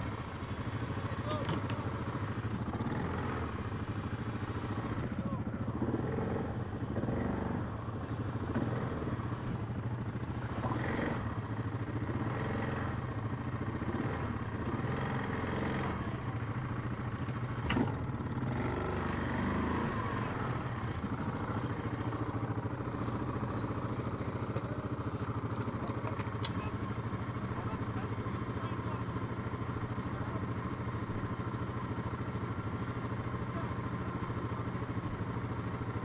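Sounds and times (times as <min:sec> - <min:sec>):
atv engines running: 0:00.0 - 0:36.0.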